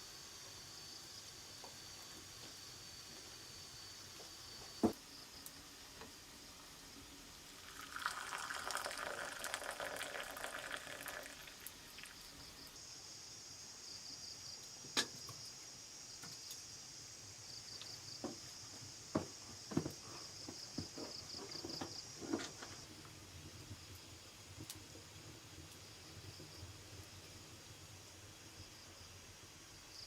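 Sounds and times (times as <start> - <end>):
jungle insects droning: 0.0 - 30.0.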